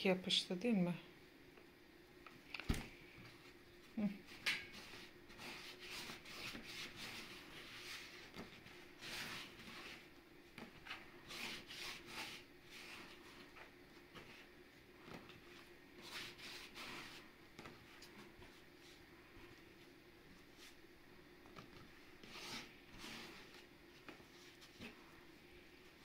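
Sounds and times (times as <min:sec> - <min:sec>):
hands kneading dough: 0:02.4 - 0:26.0.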